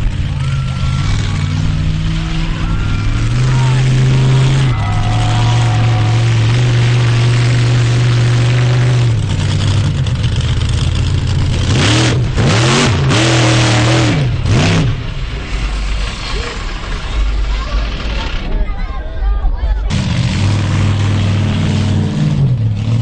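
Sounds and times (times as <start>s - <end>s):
truck engine revving: 0.0s - 19.0s, 19.7s - 23.0s.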